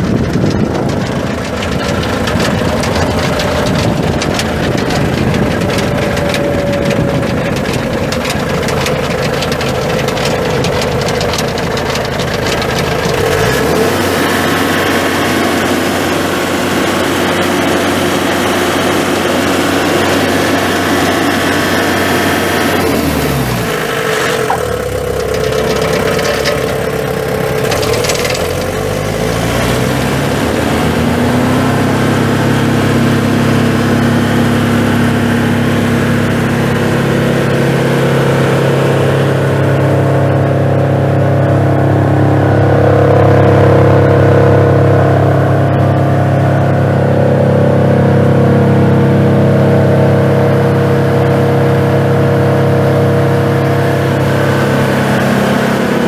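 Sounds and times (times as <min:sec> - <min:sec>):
wood chipper diesel engine running: 0:00.0 - 0:56.0.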